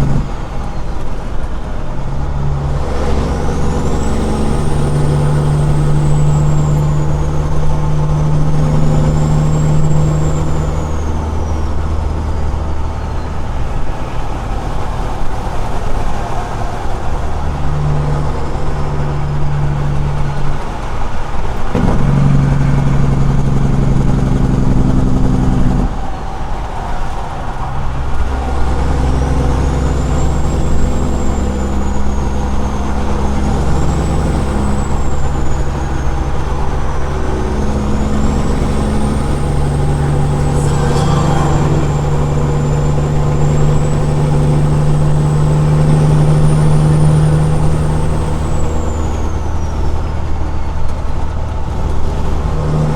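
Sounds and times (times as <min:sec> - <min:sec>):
diesel truck engine running loud: 0:00.0 - 0:52.9.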